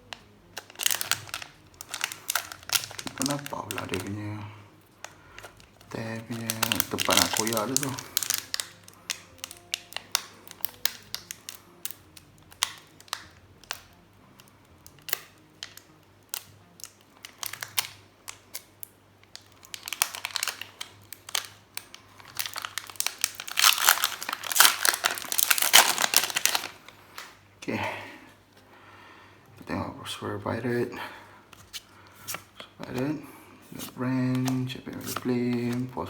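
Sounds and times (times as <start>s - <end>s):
foil wrapper crinkling: 0.1s - 27.4s, 31.5s - 36.0s.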